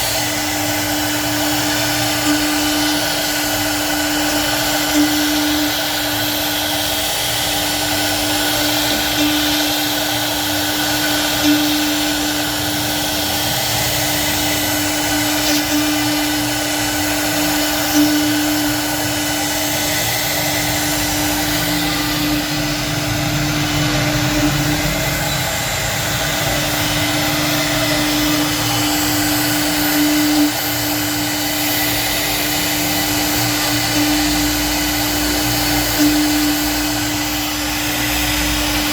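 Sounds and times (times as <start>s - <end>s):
router spindle whining carving wood: 0.0s - 38.9s.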